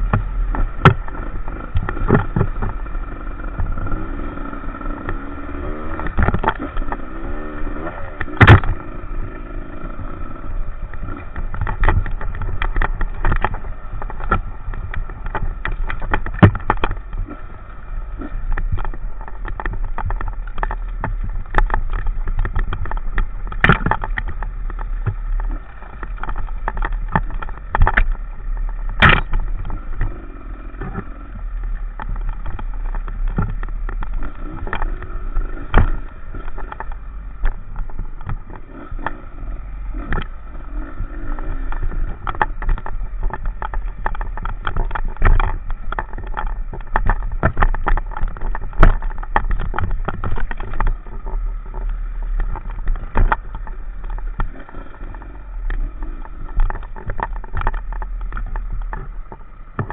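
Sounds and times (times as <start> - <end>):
sharp knocks and thumps: 0.0 - 2.9, 4.8 - 8.9, 10.9 - 17.4, 18.2 - 31.2, 31.9 - 39.2, 40.0 - 59.9
motorcycle engine drone: 0.0 - 59.9.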